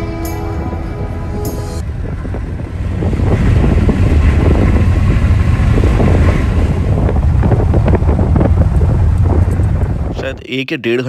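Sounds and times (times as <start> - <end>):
car wind and road noise: 0.0 - 10.4
wind buffeting microphone: 0.0 - 10.4.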